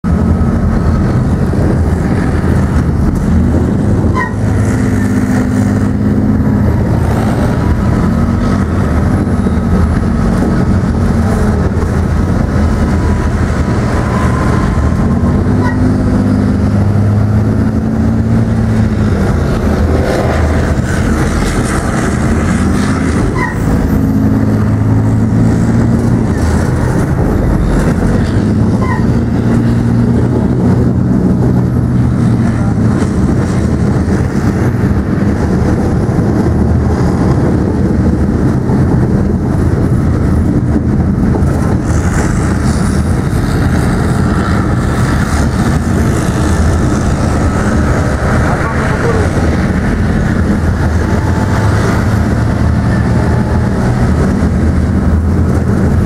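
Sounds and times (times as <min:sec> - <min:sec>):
tank engine and tracks: 0:00.0 - 0:56.0.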